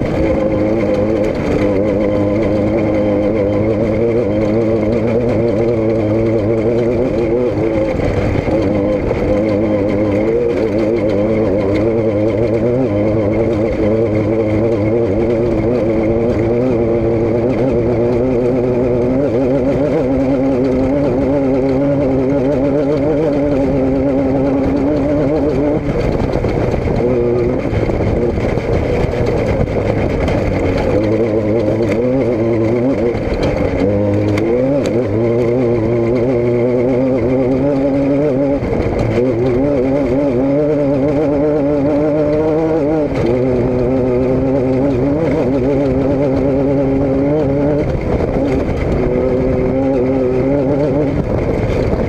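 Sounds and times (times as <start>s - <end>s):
engine running loudly: 0.0s - 52.0s.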